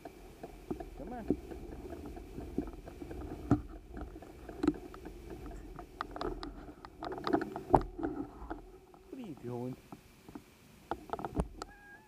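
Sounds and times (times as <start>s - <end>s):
bicycle clicks and rattling knocks: 0.0s - 11.7s.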